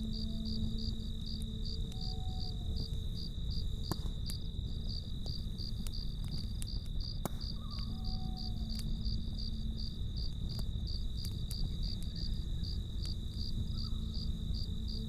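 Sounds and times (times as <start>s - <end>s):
campfire crackles: 0.0s - 15.0s
crickets chirping: 0.0s - 15.0s
low constant rumble: 0.0s - 15.0s.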